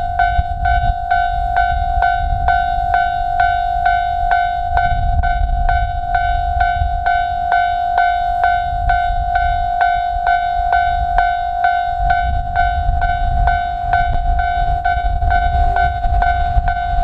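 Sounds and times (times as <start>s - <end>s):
low rumble: 0.0s - 17.0s
railroad crossing bell clanging: 0.0s - 17.0s.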